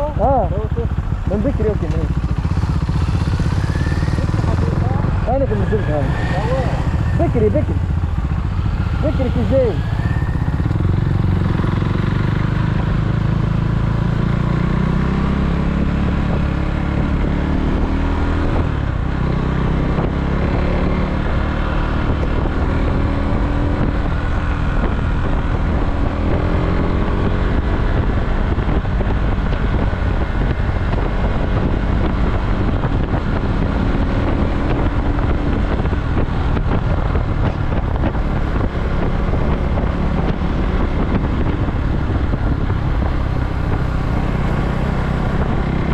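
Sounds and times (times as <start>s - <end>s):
motorcycle engine accelerating: 0.0s - 45.9s
wind noise on microphone: 0.0s - 45.9s.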